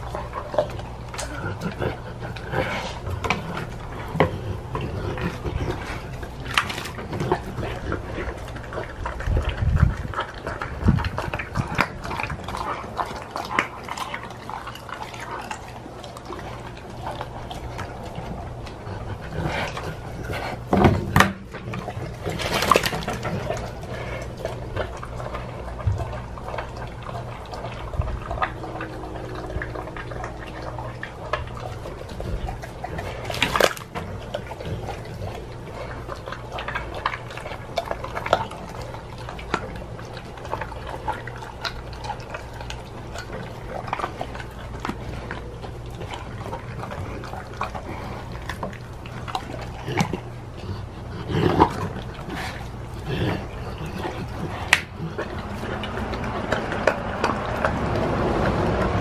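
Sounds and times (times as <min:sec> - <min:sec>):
dog chewing and licking: 0:00.0 - 0:59.0.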